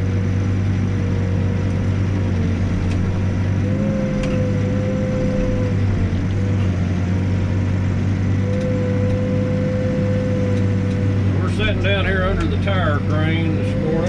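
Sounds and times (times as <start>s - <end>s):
diesel engine running under load: 0.0s - 14.0s
wavering whine: 2.2s - 14.0s.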